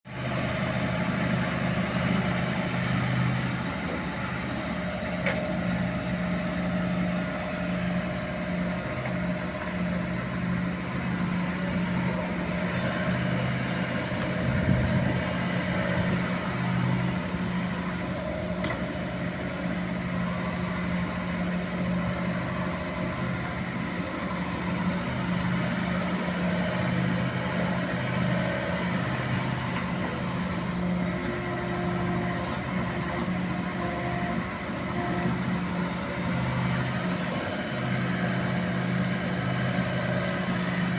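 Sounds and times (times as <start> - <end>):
diesel engine running: 0.1 - 40.9.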